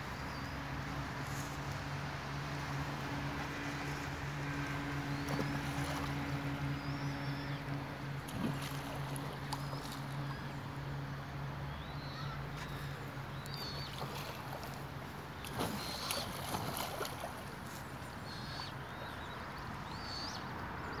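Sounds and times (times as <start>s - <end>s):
low steady hum: 0.0s - 20.6s
river water rushing: 2.1s - 11.6s, 12.8s - 20.8s.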